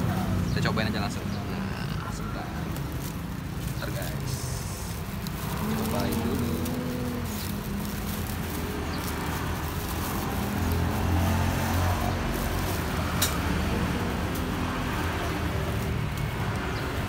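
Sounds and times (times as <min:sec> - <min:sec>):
road traffic engine rumble: 0:00.0 - 0:17.0.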